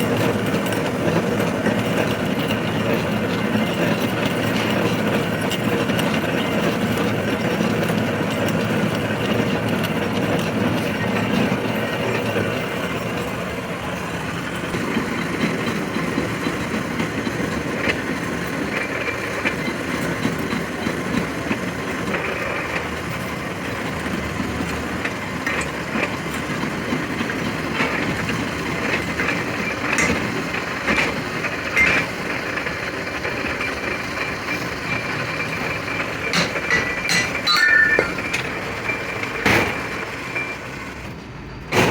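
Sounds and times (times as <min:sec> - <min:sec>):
turning machine running: 0:00.0 - 0:41.2.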